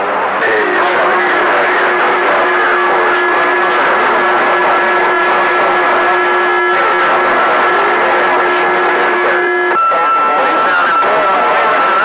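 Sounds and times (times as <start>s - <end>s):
faint garbled radio signals: 0.0s - 12.0s
radio static hiss: 0.4s - 12.0s
steady whistle tones: 0.4s - 12.0s.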